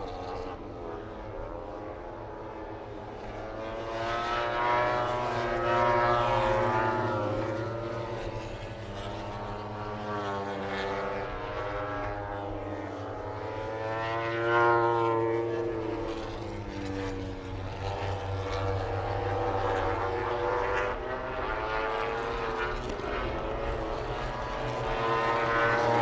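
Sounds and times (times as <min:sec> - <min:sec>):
racing motorcycles passing by: 0:00.0 - 0:26.0.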